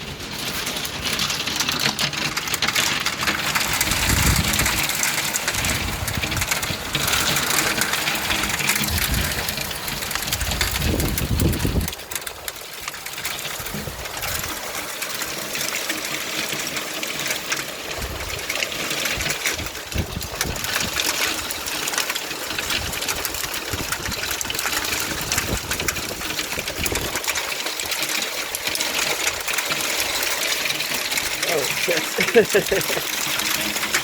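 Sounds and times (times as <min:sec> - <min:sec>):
hailstones clattering: 0:00.0 - 0:34.0.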